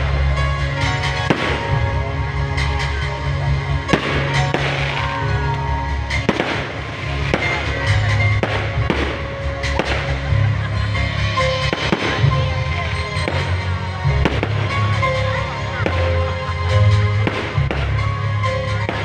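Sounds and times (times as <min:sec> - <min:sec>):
fireworks bangs: 0:00.0 - 0:03.1, 0:03.8 - 0:10.6, 0:11.4 - 0:19.0
music with steady bass: 0:00.0 - 0:19.0.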